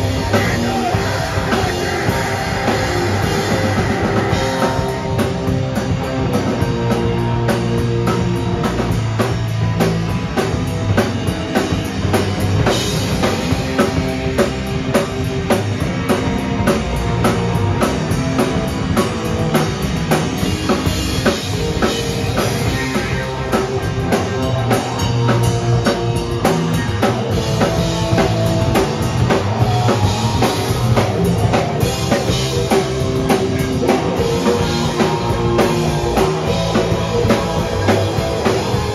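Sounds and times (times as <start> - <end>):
heavy rock band playing: 0.0 - 38.9.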